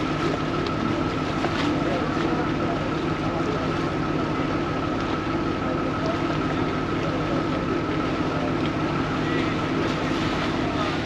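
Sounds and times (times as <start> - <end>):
boat diesel engine droning: 0.0 - 11.0
thin engine whine: 0.0 - 11.0.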